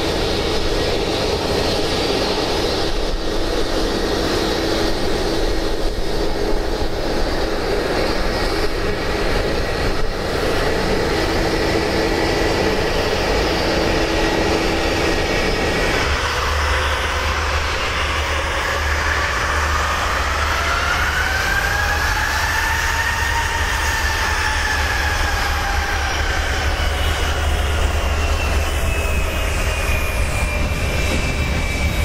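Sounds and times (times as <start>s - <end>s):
jet engines rushing: 0.0s - 32.0s
rising engine whine: 0.0s - 32.0s.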